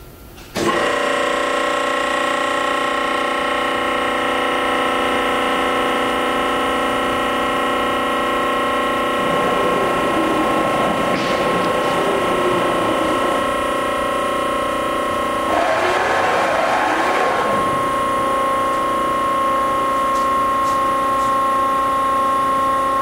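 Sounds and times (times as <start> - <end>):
hydraulic pump whine: 0.6 - 23.0
hydraulic rushing: 3.7 - 22.6.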